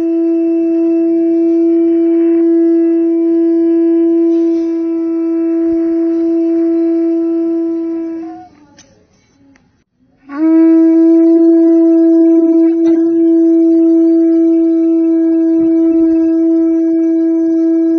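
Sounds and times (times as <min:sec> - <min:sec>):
conch shell horn blown: 0:00.0 - 0:08.5, 0:10.3 - 0:17.9.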